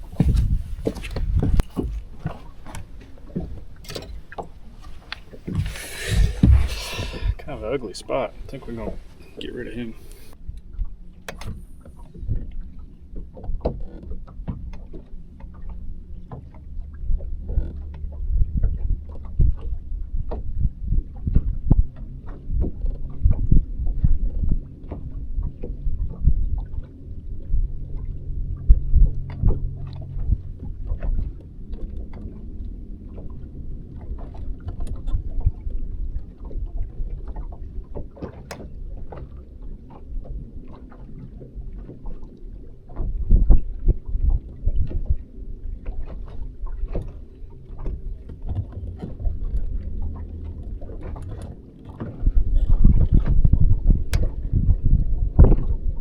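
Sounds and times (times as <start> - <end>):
boat engine low rumble: 0.0 - 56.0
water knocks and slaps: 0.0 - 56.0.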